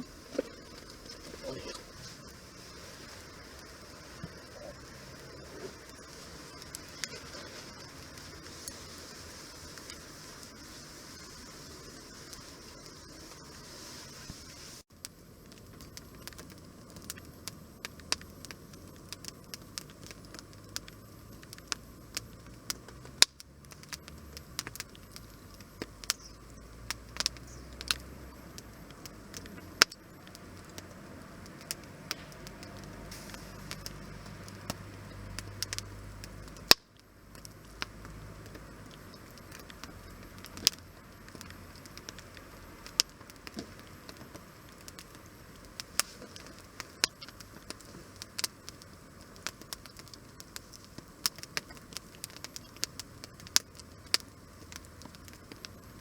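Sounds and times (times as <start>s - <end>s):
low rumble of burning: 0.0s - 56.0s
wood fire crackling: 0.0s - 56.0s.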